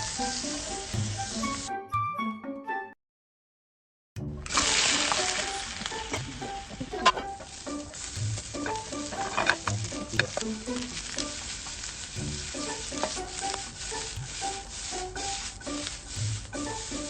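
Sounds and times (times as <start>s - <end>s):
wood fire crackling: 0.0s - 1.6s, 4.4s - 17.0s
food sizzling in a pan: 0.0s - 1.7s, 4.5s - 17.0s
light background music: 0.0s - 3.0s, 4.2s - 17.0s.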